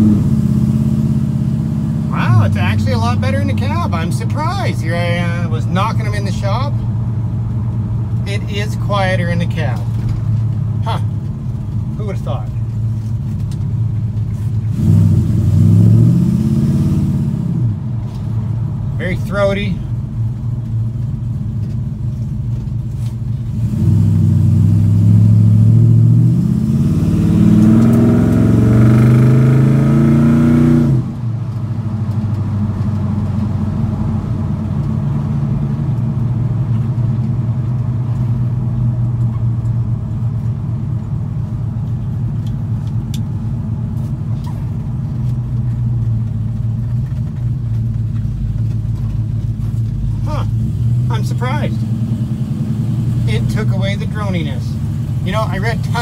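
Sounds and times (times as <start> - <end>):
throaty engine exhaust note: 0.0 - 9.7, 14.6 - 17.9, 23.0 - 56.0.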